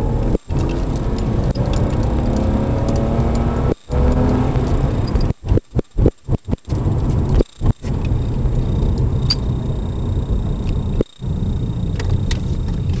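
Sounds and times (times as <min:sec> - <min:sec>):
car engine and road noise rumble: 0:00.0 - 0:13.0.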